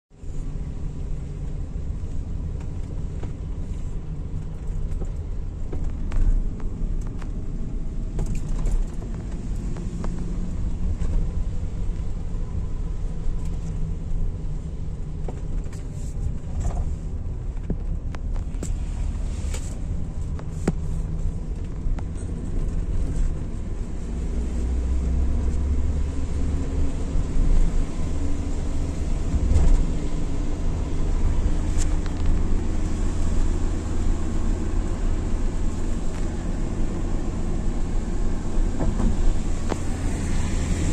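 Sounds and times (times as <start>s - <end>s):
car cabin road and engine rumble: 0.1s - 40.9s.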